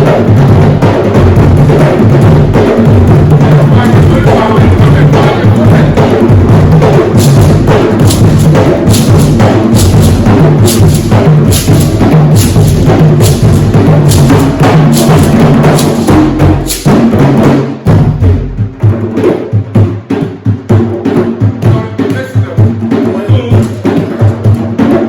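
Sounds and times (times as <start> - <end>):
drums playing fast rhythm: 0.0 - 25.0.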